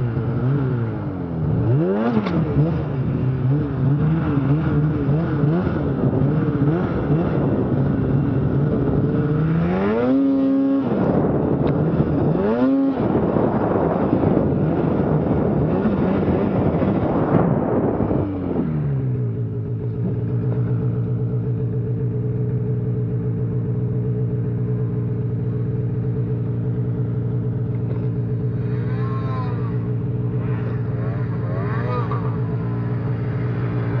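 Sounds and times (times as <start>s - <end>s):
snowmobile engine idling: 0.0s - 10.1s, 16.6s - 34.0s
distant snowmobile revving: 0.0s - 21.9s, 26.2s - 34.0s.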